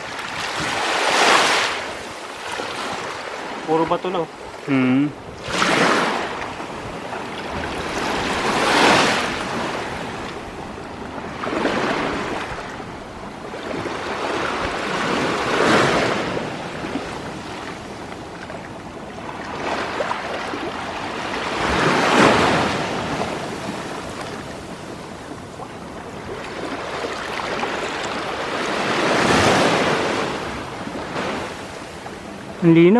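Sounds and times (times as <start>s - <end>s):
waves washing on rocky shore: 0.0s - 32.9s.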